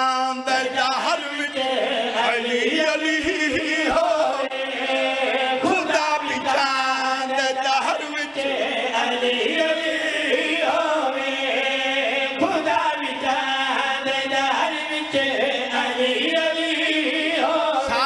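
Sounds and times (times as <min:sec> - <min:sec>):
men chanting over pa system: 0:00.0 - 0:18.0.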